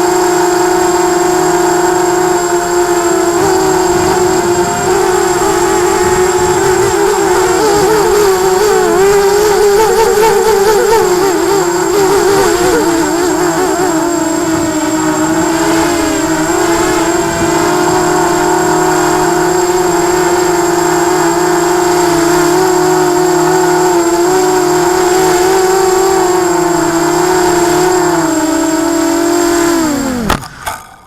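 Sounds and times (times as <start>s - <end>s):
quadcopter propellers whining: 0.0s - 31.0s.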